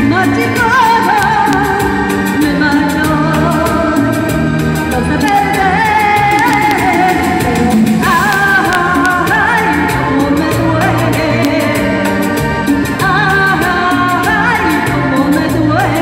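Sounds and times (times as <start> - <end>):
amplified music with steady beat: 0.0 - 16.0
woman singing into microphone: 0.0 - 16.0.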